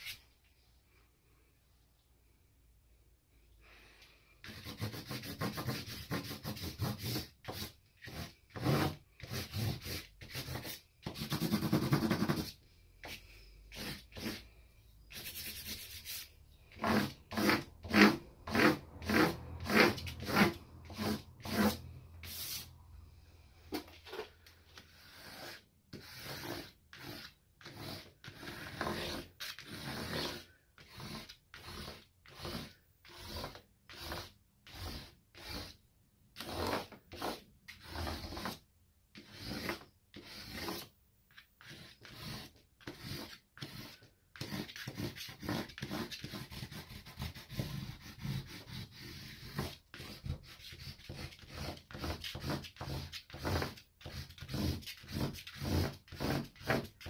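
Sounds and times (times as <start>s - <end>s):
charcoal stick scraping on paper: 0.0s - 0.3s, 4.4s - 22.7s, 23.7s - 35.8s, 36.4s - 57.0s.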